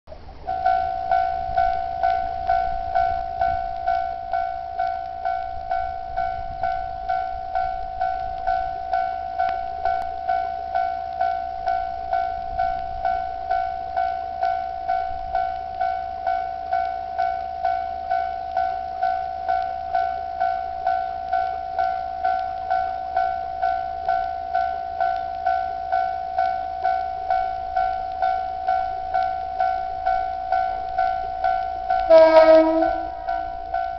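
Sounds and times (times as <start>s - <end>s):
level-crossing warning bell: 0.2s - 33.9s.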